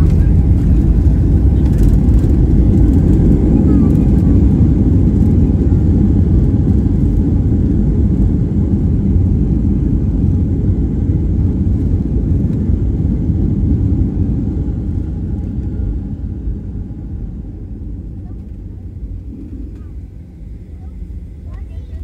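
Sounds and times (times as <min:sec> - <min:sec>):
jet airliner cabin rumble: 0:00.0 - 0:22.0.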